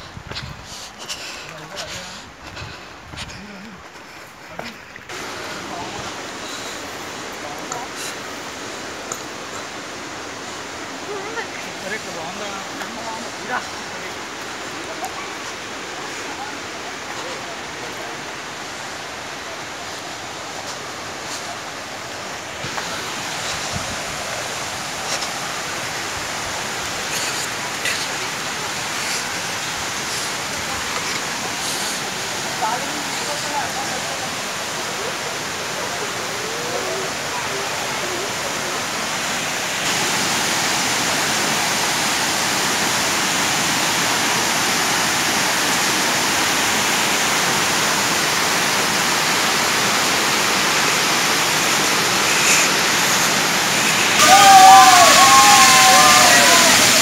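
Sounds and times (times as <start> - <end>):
flowing water hiss: 0.0 - 57.0.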